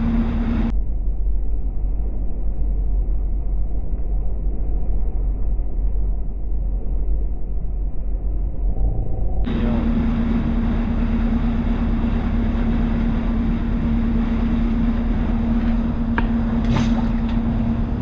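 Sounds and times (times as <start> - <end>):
boat engine running: 0.0 - 0.7, 1.8 - 18.0
wind on microphone: 0.0 - 18.0.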